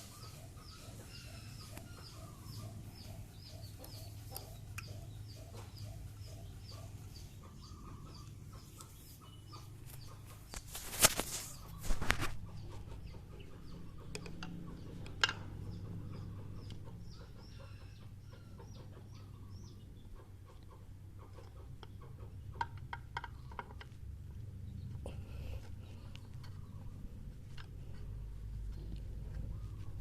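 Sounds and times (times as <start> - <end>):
steady low hum: 0.0 - 10.6, 11.5 - 30.0
birds calling: 0.0 - 30.0.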